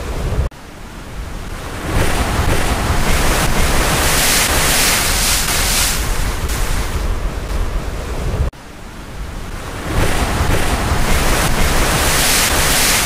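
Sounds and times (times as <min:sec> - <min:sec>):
ocean waves rushing: 0:00.0 - 0:13.0.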